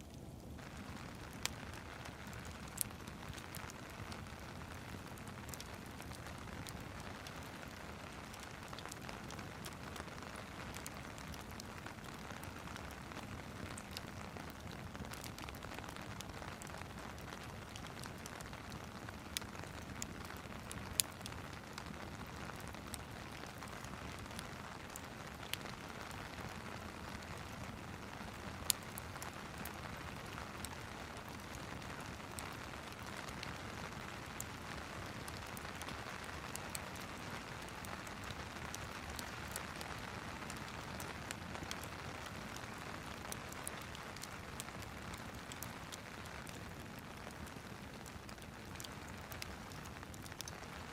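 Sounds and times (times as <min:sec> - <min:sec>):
steady rain: 0:00.0 - 0:50.9
wood fire crackling: 0:00.0 - 0:50.9.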